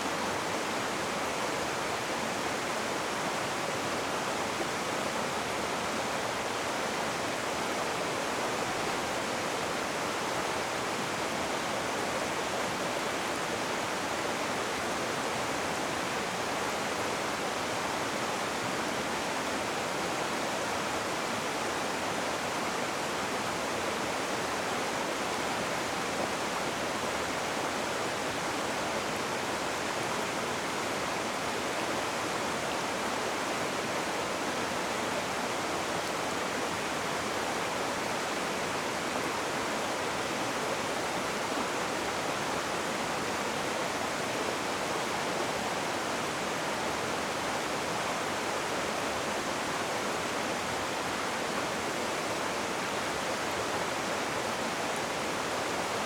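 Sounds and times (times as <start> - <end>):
rushing river water: 0.0 - 56.0.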